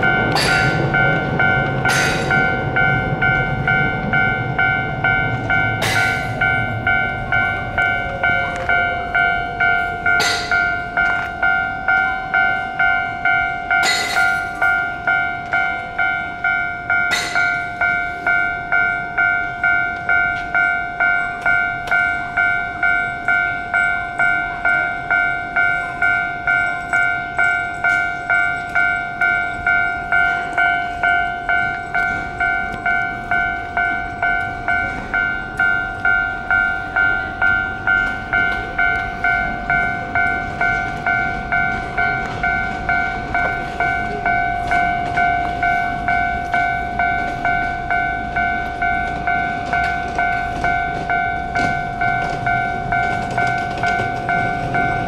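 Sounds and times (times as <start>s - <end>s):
level crossing two-tone bell: 0.0s - 55.0s.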